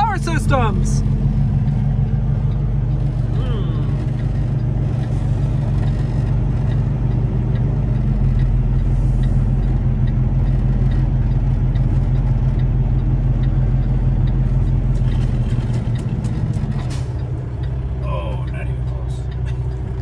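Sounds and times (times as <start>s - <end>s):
diesel truck engine running: 0.0s - 20.0s
light regular ticking: 0.1s - 20.0s.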